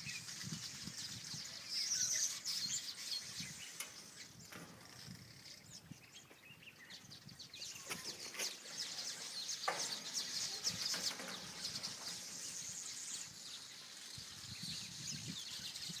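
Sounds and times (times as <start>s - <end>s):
birds chirping and singing: 0.0s - 16.0s.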